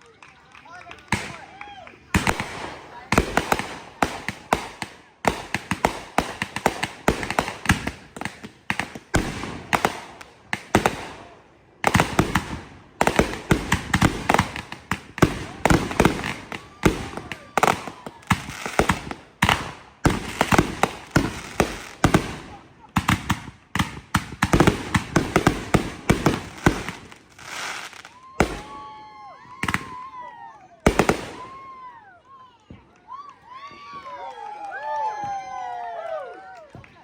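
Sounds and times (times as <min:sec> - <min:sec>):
fireworks bangs and crackles: 0:00.8 - 0:32.0.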